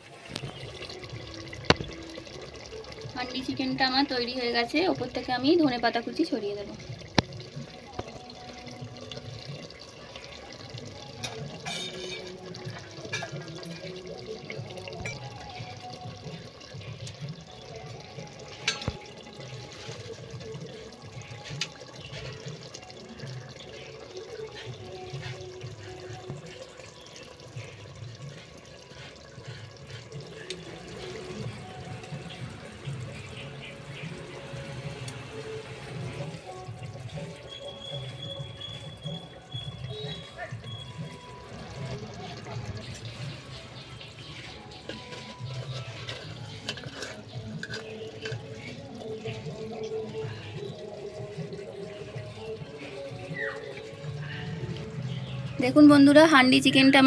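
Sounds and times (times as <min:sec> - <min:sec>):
curry bubbling in a pot: 0:00.0 - 0:57.0.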